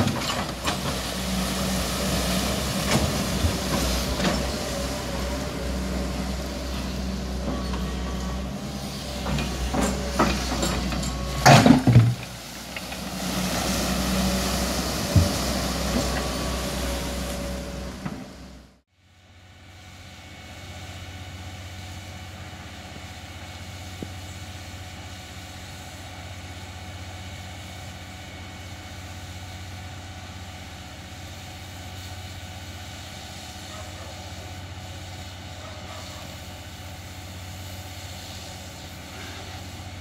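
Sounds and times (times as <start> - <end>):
excavator diesel engine droning: 0.0 - 40.0.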